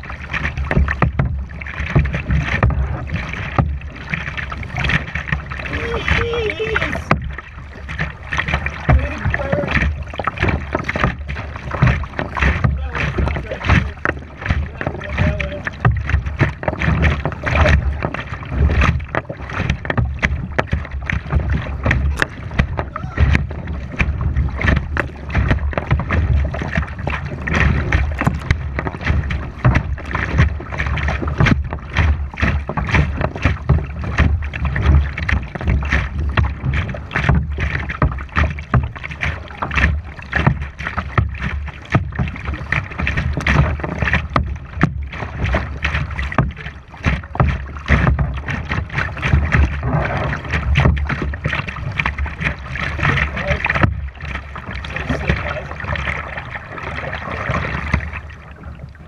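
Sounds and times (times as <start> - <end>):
water splashing against kayak: 0.0 - 59.0.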